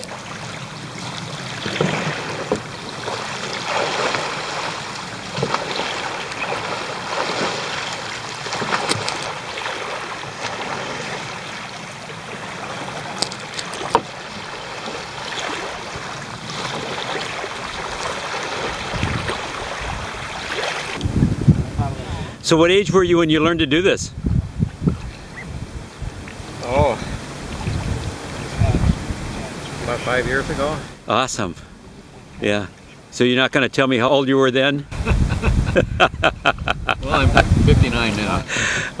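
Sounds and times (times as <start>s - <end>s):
water splashing around kayak: 0.0s - 22.4s, 24.2s - 31.0s, 36.9s - 39.0s.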